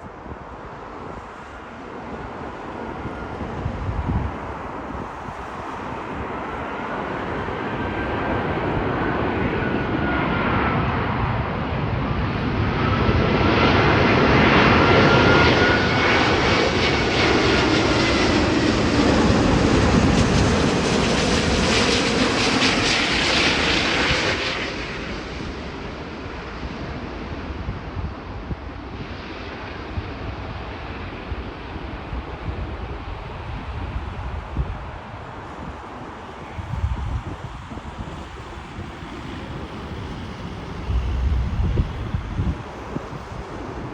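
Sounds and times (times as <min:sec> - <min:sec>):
jet airliner flying past: 0:00.0 - 0:43.9
jet engine whine: 0:00.0 - 0:43.9.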